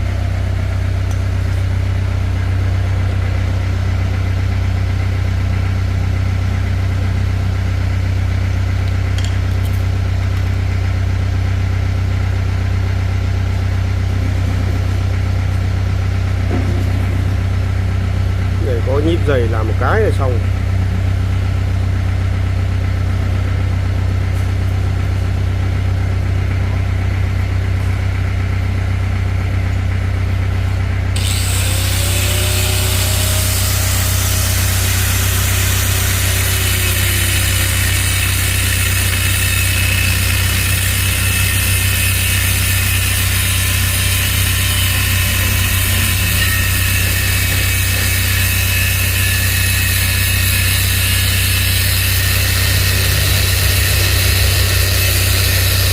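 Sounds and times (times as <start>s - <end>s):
engine low drone: 0.0s - 55.9s.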